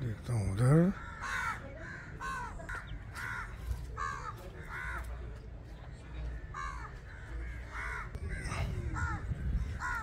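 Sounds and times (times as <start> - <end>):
crow cawing: 0.6 - 5.2, 6.3 - 10.0.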